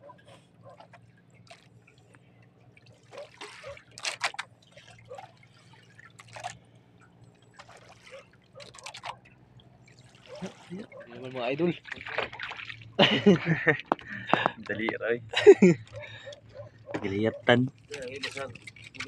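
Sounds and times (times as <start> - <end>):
water dripping and trickling: 0.7 - 15.1, 17.6 - 19.0.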